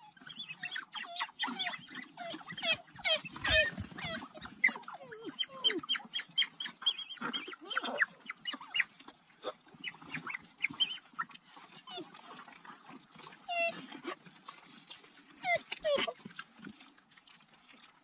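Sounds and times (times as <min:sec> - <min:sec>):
wild dogs twittering and squeaking: 0:00.0 - 0:16.9.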